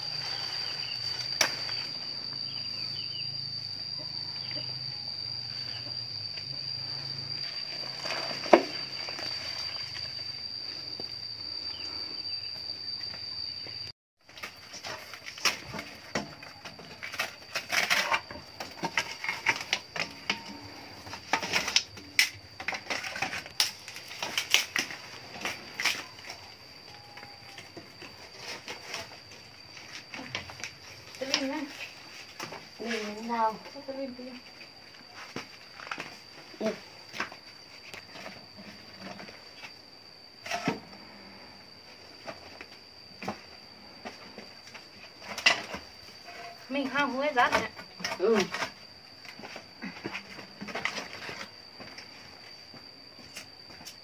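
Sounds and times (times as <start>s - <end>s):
steady high-pitched whine: 0.0s - 54.0s.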